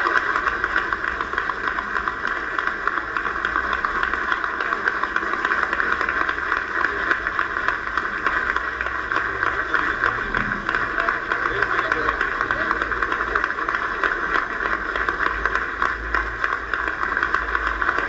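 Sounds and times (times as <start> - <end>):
audience applause through tv speaker: 0.0 - 18.0.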